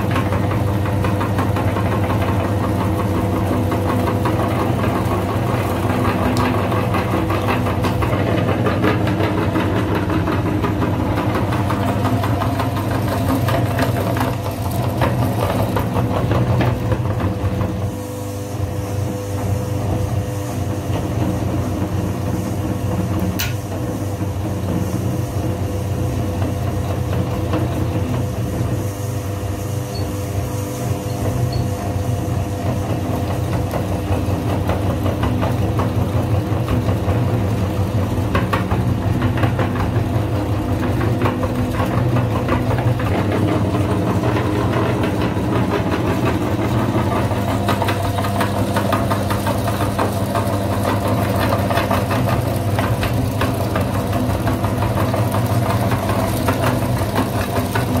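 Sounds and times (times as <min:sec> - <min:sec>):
meat grinder motor running: 0:00.0 - 0:58.0.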